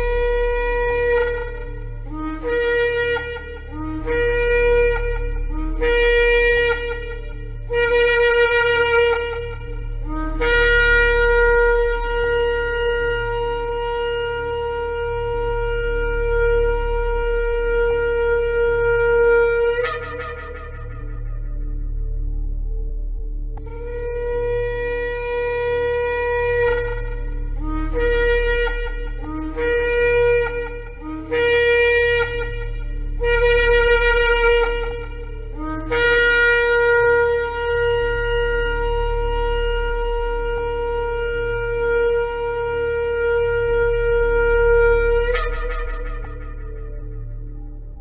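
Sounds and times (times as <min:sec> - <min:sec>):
ram's horn blasts: 0:00.0 - 0:22.8, 0:23.6 - 0:48.0
steady low hum: 0:00.0 - 0:48.0.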